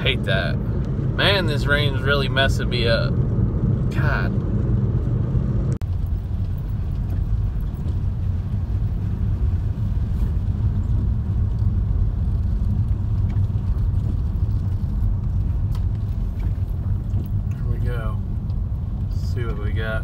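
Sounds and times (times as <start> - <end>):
car rumble inside cabin: 0.0 - 20.0.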